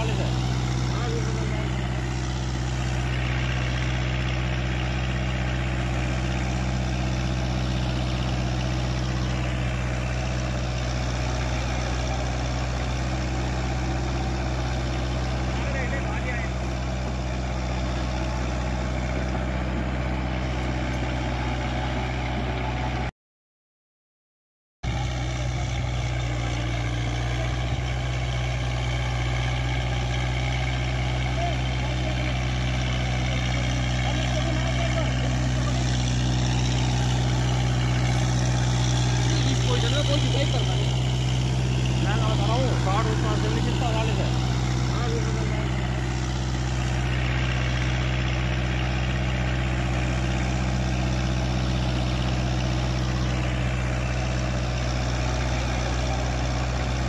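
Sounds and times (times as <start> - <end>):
tractor diesel engine running: 0.0 - 23.1, 24.8 - 57.0.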